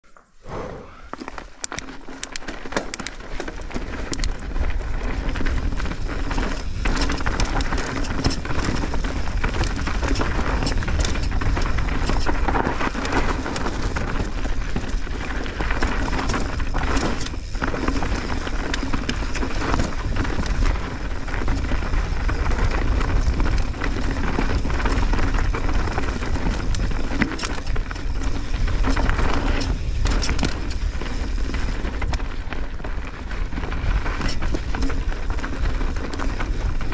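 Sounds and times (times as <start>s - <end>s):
bike tyres rolling over gravel: 1.0s - 36.9s
bike clattering over rough ground: 1.2s - 36.9s.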